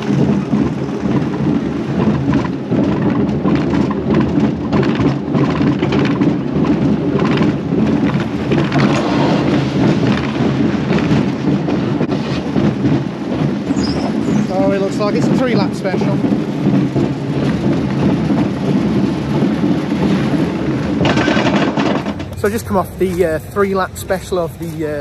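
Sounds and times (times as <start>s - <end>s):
roller coaster train rumbling: 0.0s - 25.0s
wheels rattling and clattering: 0.0s - 25.0s.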